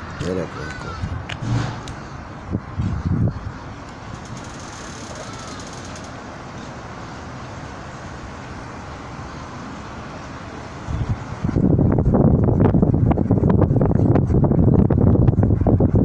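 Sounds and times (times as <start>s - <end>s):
outdoor background hiss and rumble: 0.0s - 16.0s.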